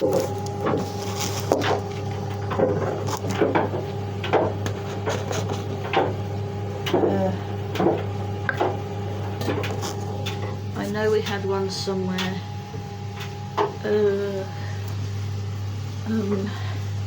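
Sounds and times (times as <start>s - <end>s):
low appliance hum: 0.0s - 17.0s.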